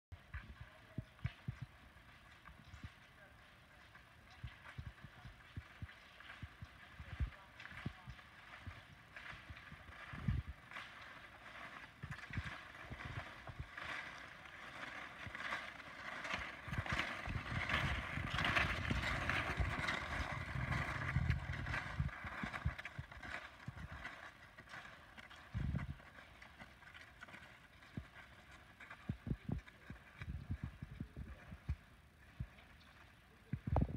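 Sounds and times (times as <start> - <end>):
ski poles clicking and crunching: 0.2 - 33.9
skis scraping on snow: 0.2 - 33.9.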